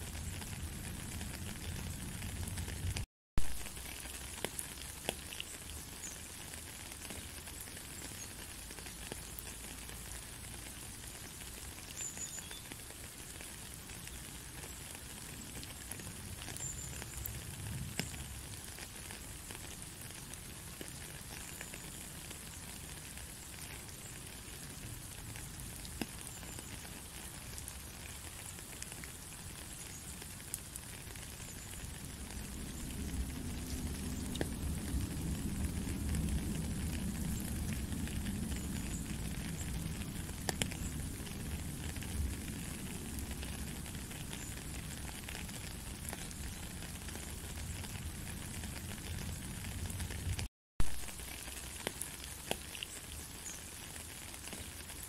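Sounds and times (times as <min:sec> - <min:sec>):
drips and ticks: 0:00.0 - 0:55.0
steady rain falling: 0:00.0 - 0:55.0.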